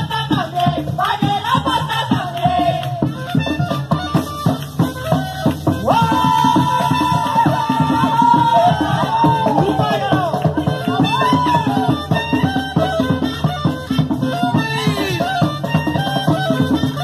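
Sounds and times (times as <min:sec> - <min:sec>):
cumbia music over a pa: 0:00.0 - 0:17.0.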